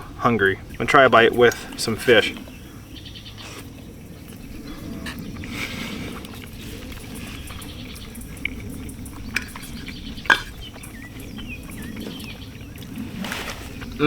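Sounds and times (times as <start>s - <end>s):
outdoor background: 0.0s - 14.0s
faint bird chirps: 0.4s - 14.0s.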